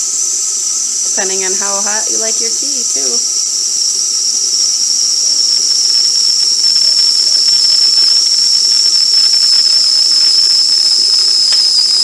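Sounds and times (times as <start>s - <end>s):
electric kettle boiling: 0.0s - 12.0s
kettle whistling: 0.0s - 12.0s.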